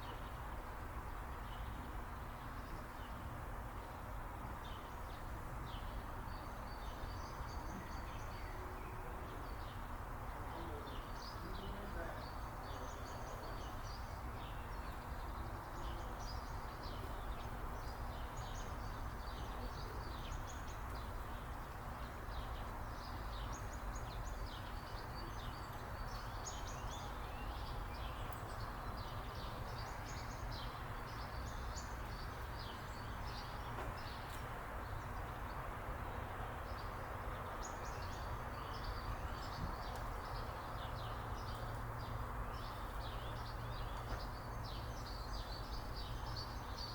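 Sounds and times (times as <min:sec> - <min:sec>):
small birds chirping: 0:04.6 - 0:46.9.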